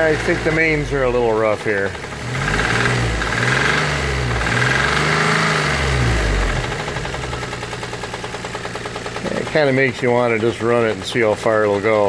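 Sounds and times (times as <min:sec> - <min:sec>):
car engine revving: 0:00.0 - 0:11.0
engine idling with rapid knocking: 0:00.0 - 0:12.0.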